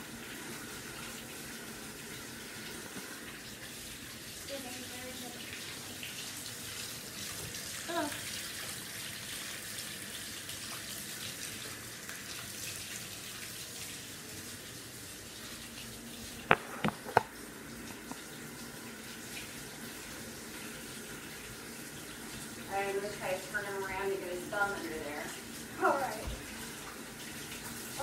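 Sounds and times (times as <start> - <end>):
faucet running into bathtub: 0.0 - 28.0.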